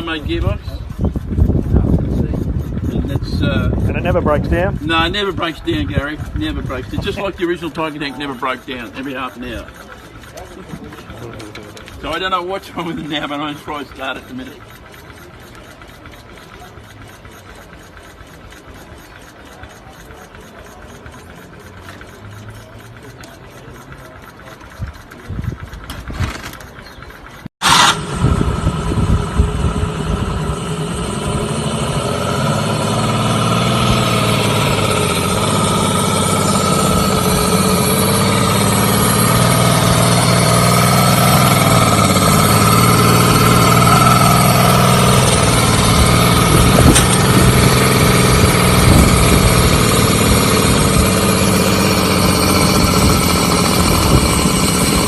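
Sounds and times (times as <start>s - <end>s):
small engine starting and running: 0.0s - 55.0s.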